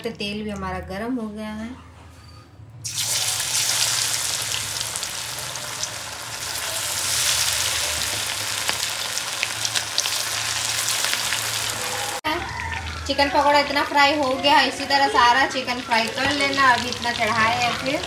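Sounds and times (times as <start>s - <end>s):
deep-frying sizzle in hot oil: 2.8s - 18.0s.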